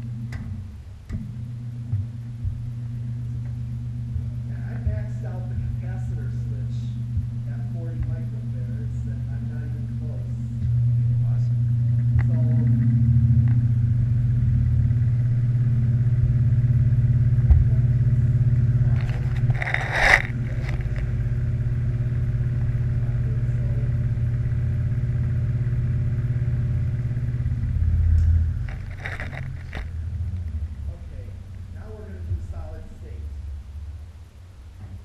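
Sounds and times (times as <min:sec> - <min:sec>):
box fan running: 0:00.0 - 0:35.0.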